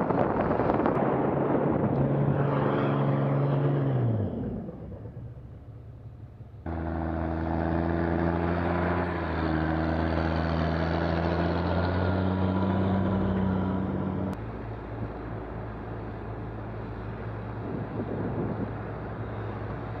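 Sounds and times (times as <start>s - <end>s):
tractor engine running: 3.6s - 20.0s.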